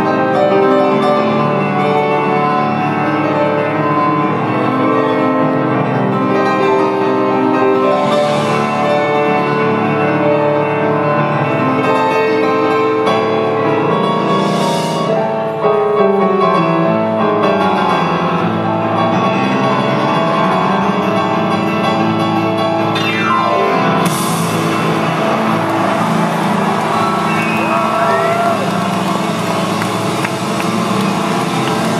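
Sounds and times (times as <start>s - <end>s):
grand piano solo: 0.0s - 31.9s.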